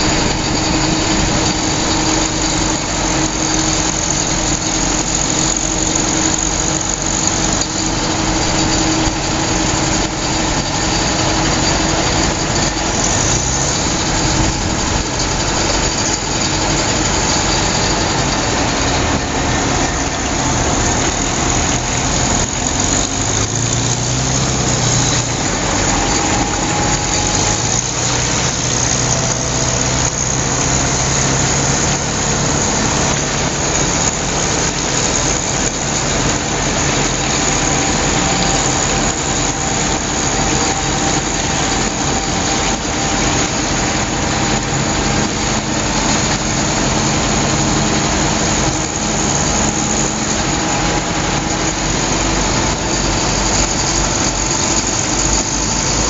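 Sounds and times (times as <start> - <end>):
engine running steadily: 0.0 - 56.0
rushing water noise: 0.0 - 56.0.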